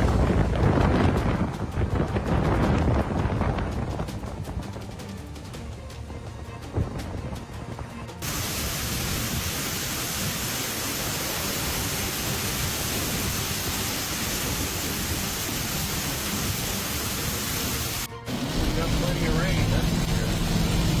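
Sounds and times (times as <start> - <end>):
heavy rain pouring: 0.0 - 5.6, 8.2 - 21.0.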